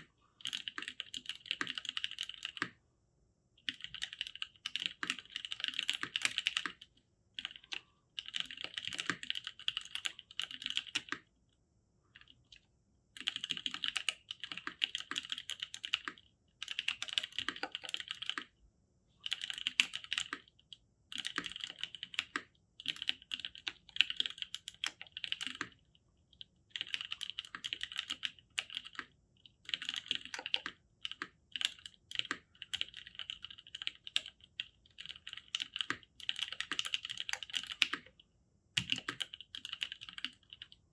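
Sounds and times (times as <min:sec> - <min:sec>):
mechanical keyboard typing: 0:00.4 - 0:02.8, 0:03.6 - 0:11.3, 0:13.2 - 0:18.5, 0:19.2 - 0:20.5, 0:21.1 - 0:38.2, 0:38.8 - 0:40.8.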